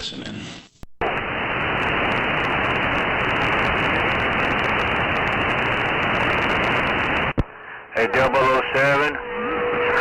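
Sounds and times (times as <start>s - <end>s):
radio static hiss: 0.0s - 9.2s.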